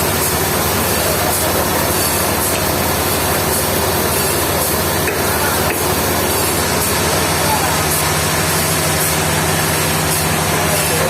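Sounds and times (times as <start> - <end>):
loud machinery hiss: 0.0 - 11.0
sawmill engine drone: 0.0 - 11.0.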